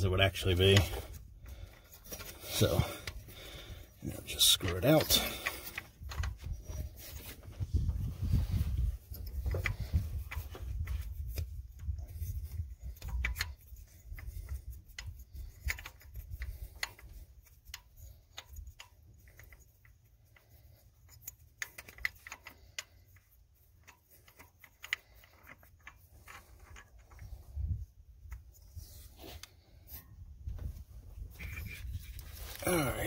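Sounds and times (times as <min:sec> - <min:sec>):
light clicks and rubbing: 0:00.0 - 0:33.0.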